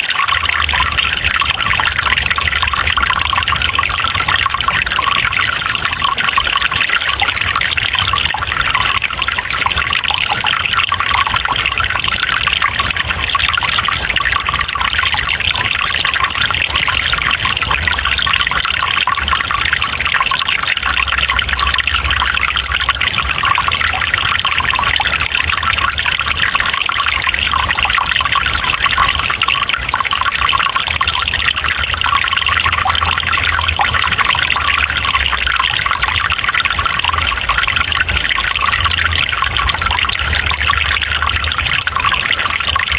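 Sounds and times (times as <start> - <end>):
stream trickling over rocks: 0.0 - 42.9.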